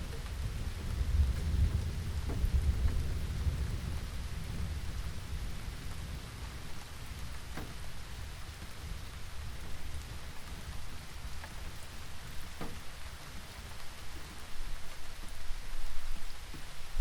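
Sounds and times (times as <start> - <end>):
steady rain falling: 0.0 - 17.0
thunder rumble: 0.0 - 17.0.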